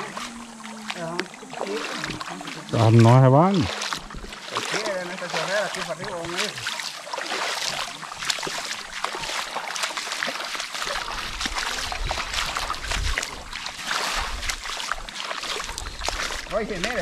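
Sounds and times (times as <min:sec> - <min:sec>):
stream water running and splashing: 0:00.0 - 0:17.0
water sloshing: 0:00.0 - 0:17.0.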